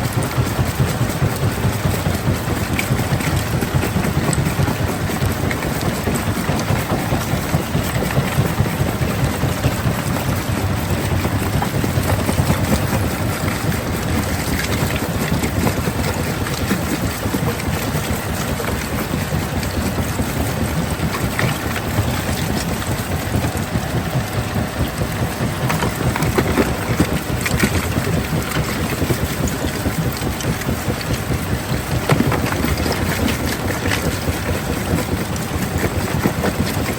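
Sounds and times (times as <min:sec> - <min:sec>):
rattle of rock: 0:00.0 - 0:36.9
stone crusher rumbling: 0:00.2 - 0:36.9.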